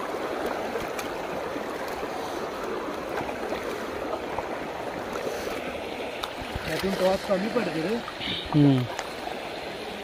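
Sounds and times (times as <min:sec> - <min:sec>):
faint splashes of wading feet: 0:00.0 - 0:10.0
stream water running: 0:00.0 - 0:10.0.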